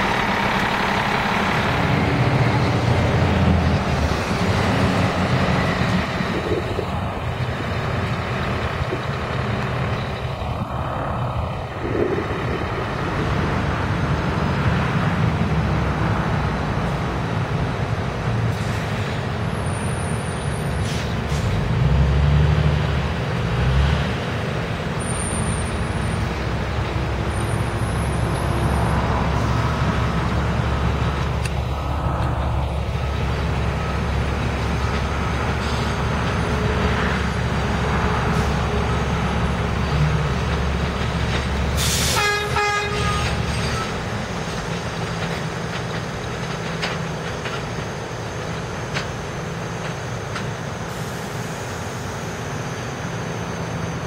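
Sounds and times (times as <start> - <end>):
subway cars rumbling: 0.0 - 54.0.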